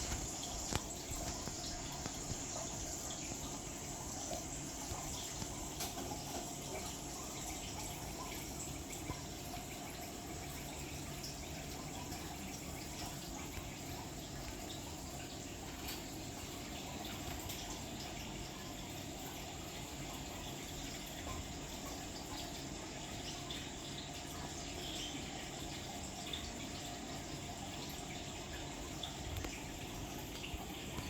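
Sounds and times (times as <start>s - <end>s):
rainwater trickling and dripping: 0.0s - 31.0s.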